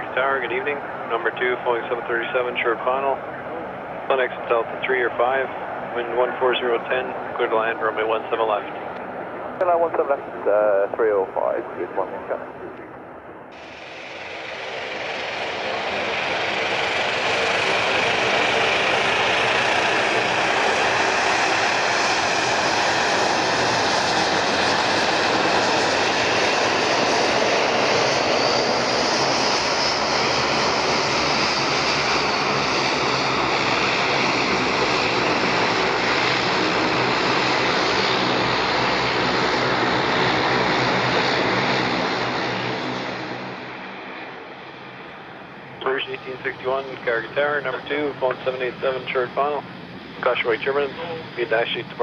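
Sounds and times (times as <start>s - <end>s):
airliner engines rushing: 0.0s - 52.0s.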